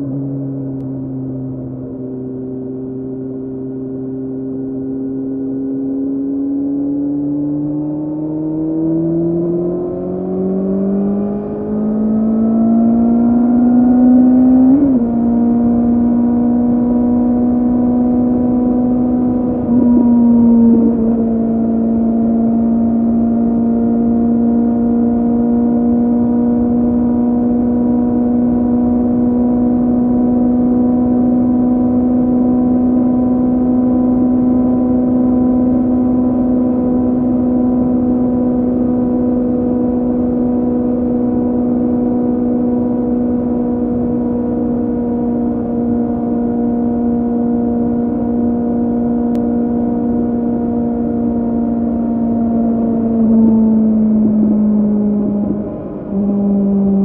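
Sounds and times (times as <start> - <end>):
motorcycle engine at steady revs: 0.0 - 57.0
wind and road noise: 0.0 - 57.0.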